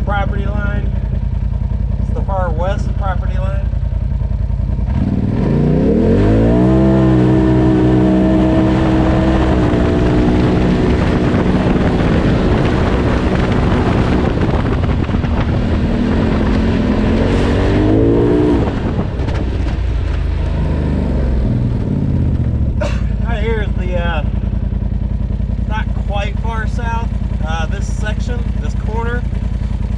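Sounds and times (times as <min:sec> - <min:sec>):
vehicle rumble and clatter on trail: 0:00.0 - 0:29.9
engine revving: 0:01.9 - 0:29.9.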